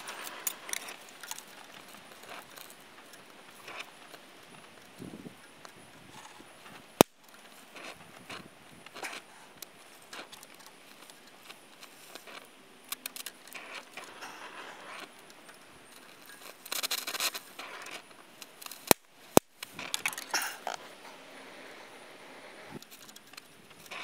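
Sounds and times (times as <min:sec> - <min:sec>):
sparks crackling and spitting: 0:00.0 - 0:24.0.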